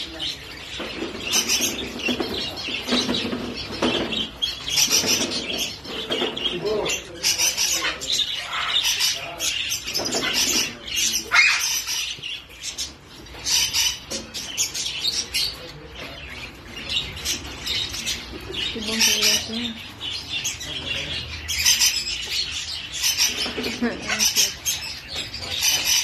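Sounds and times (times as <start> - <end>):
parrots chirping and calling: 0.0 - 26.0.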